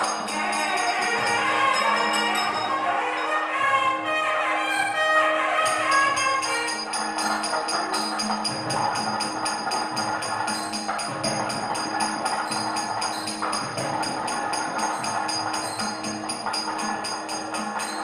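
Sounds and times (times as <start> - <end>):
brass temple bell rung rapidly: 0.0 - 3.9, 5.6 - 18.0
wavering melody over drone: 0.0 - 18.0.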